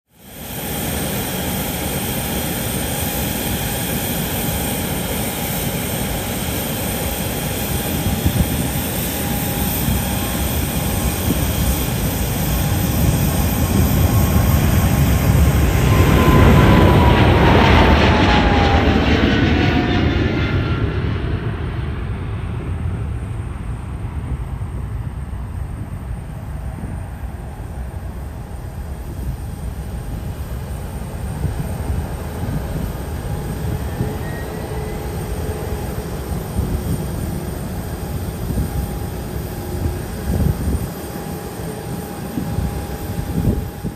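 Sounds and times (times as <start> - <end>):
jet airliner taking off: 0.1 - 43.9
jet engine whine: 0.1 - 43.9.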